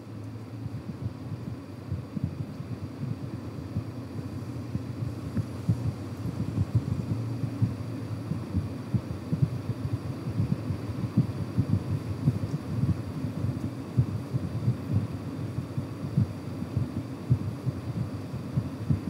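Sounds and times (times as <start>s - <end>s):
low uneven pulsing rumble: 0.0s - 19.0s.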